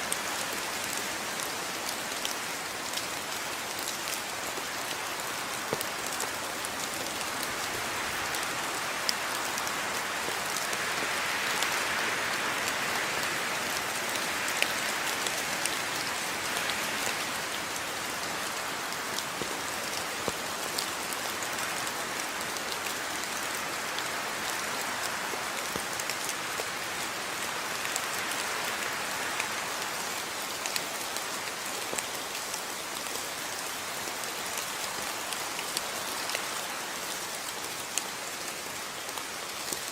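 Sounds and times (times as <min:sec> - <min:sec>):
steady rainfall pattering: 0:00.0 - 0:39.9.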